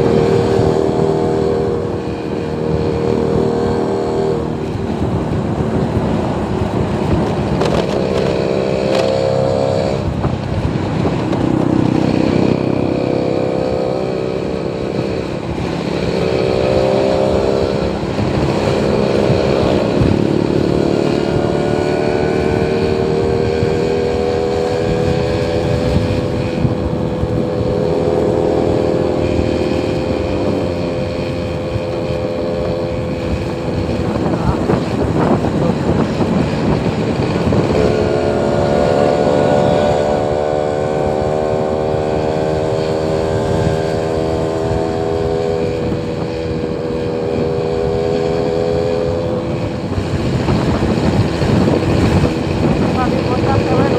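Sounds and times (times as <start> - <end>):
vehicle engine revving: 0.0 - 53.9.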